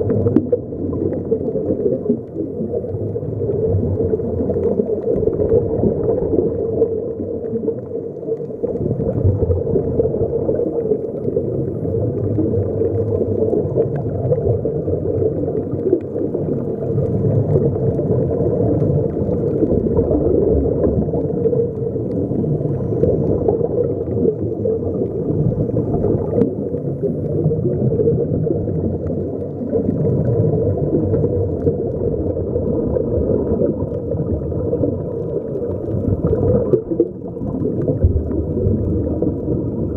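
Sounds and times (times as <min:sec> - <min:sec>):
air bubbles gurgling: 0:00.0 - 0:39.9
muffled underwater noise: 0:00.0 - 0:39.9.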